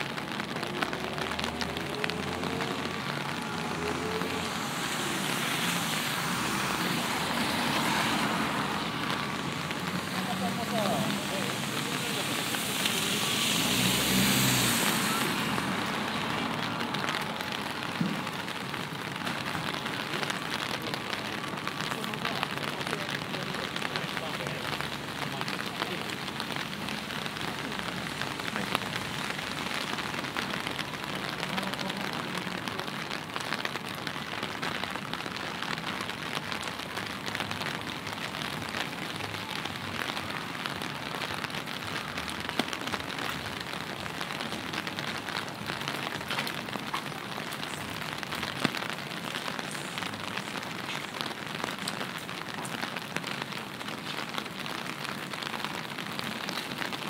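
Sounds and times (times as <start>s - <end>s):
rain falling: 0.0s - 57.0s
raindrops ticking and tapping: 0.0s - 57.0s.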